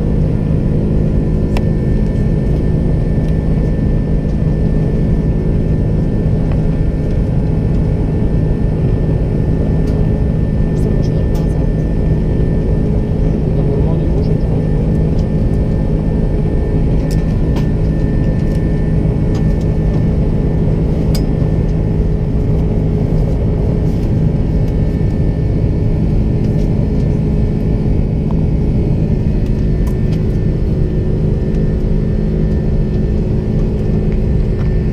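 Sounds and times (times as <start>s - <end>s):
jet engines rumbling: 0.0s - 34.9s
low steady drone: 0.0s - 34.9s.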